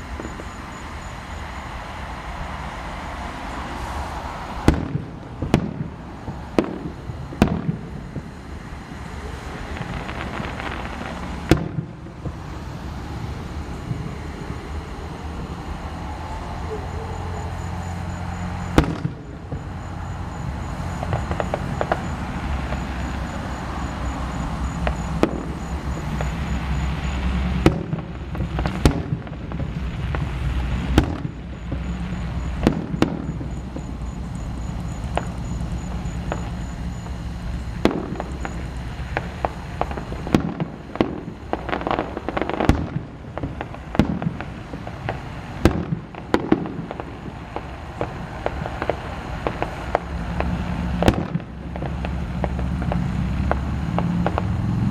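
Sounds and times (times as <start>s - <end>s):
fireworks booming and cracking: 0.0s - 54.9s.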